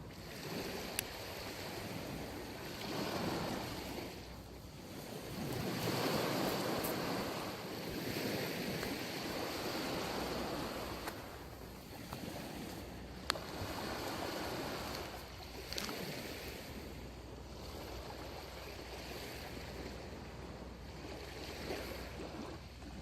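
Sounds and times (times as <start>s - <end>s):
waves washing up a beach: 0.0s - 23.0s.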